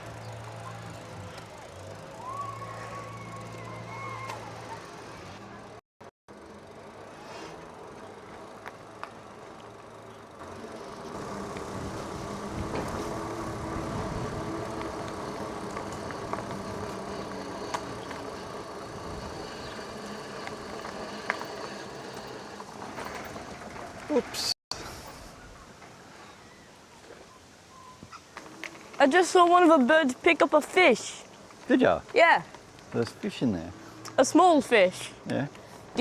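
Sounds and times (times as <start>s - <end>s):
bicycle tyre noise: 0.0s - 25.5s, 28.2s - 36.0s
wind: 0.0s - 36.0s.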